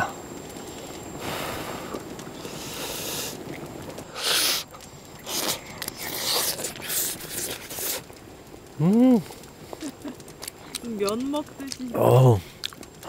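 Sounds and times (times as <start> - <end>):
broth simmering hiss: 0.0 - 13.0.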